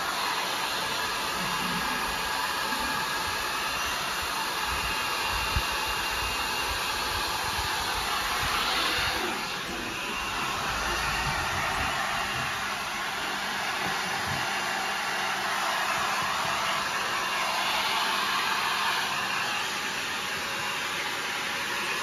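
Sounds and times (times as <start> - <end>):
hair dryer whooshing: 0.0 - 22.0.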